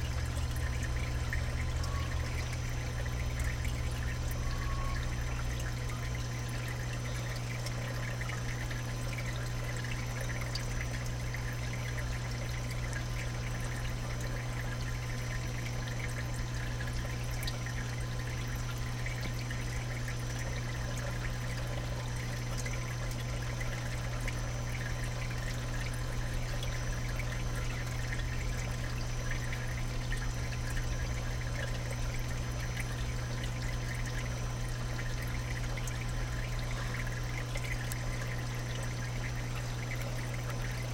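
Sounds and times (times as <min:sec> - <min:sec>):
constant low hum: 0:00.0 - 0:40.9
water trickling and splashing: 0:00.0 - 0:40.9.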